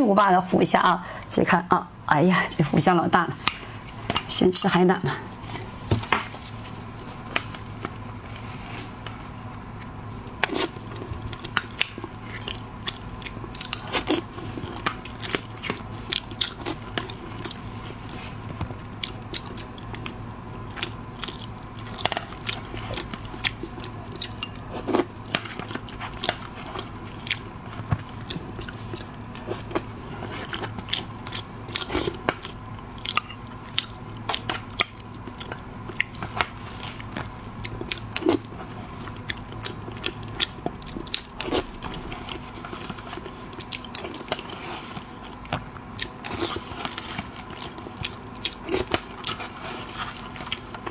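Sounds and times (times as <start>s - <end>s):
faint steady hum: 0.0s - 50.9s
crunchy bites and wet chewing: 5.4s - 50.9s.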